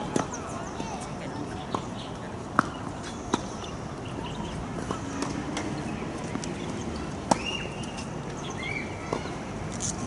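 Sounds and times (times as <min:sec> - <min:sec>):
outdoor ambience: 0:00.0 - 0:10.0.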